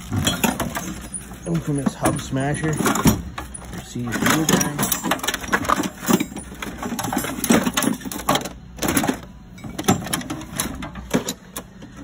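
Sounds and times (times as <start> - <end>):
tools rattling in metal drawer: 0.0 - 12.0.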